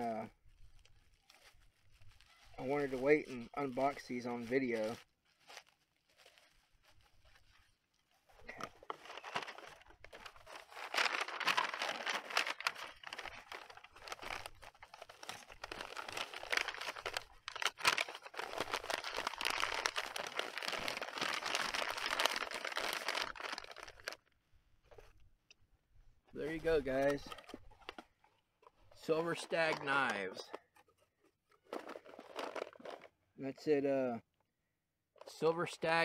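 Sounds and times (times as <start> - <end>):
bubble wrap and paper crinkling: 0.0 - 25.2, 26.4 - 33.2.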